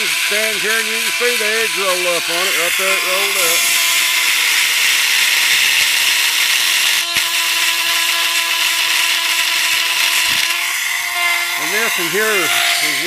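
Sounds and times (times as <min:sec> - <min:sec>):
grinder whining: 0:00.0 - 0:13.0
high grinding hiss: 0:00.0 - 0:13.0.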